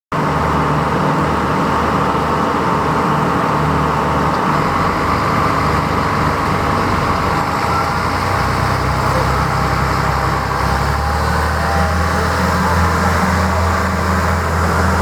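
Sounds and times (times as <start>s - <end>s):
diesel train engine humming: 0.2s - 15.0s.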